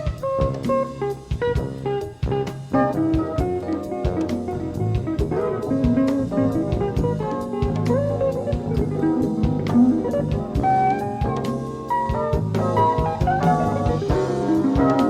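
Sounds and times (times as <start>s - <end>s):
jazz band playing: 0.0s - 15.0s.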